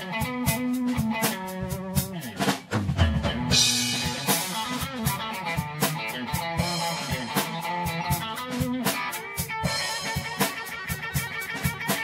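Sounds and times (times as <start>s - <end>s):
drum kit keeping time: 0.0s - 12.0s
electric guitar blues lead: 0.0s - 12.0s.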